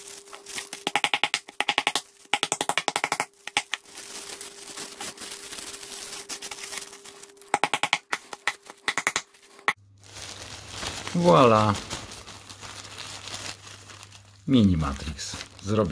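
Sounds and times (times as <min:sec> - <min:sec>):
plastic bag crinkling: 0:00.0 - 0:00.9, 0:01.5 - 0:02.4, 0:03.3 - 0:15.9.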